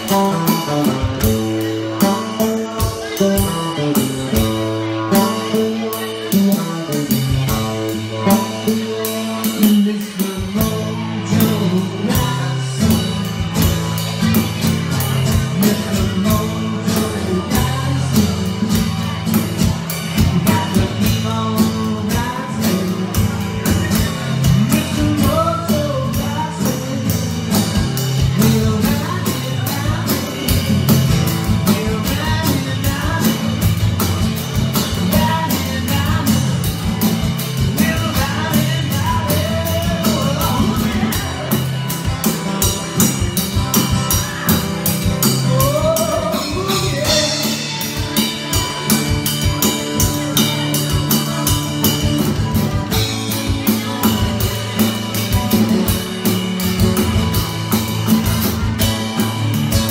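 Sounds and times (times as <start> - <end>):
bass line: 0.0 - 59.9
drum kit beat with cymbals: 0.0 - 59.9
melodic guitar or keyboard: 0.0 - 59.9.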